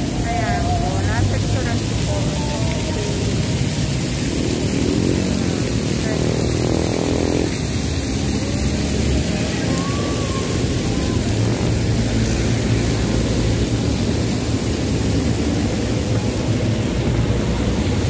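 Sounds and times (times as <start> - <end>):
fountain water jets spraying: 0.0 - 18.0.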